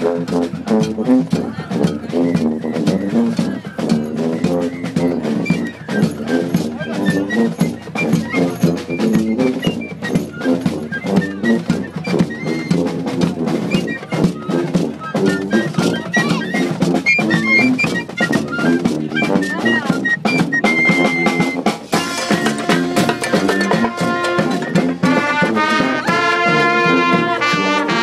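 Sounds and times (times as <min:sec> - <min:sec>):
brass street band: 0:00.0 - 0:28.0
steady drum beat: 0:00.0 - 0:28.0.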